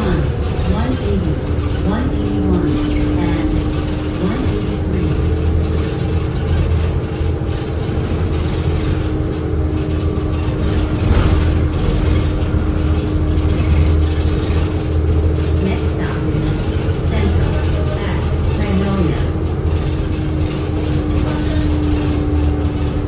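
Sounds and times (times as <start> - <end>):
bus engine low drone: 0.0 - 23.0
road noise: 0.0 - 23.0.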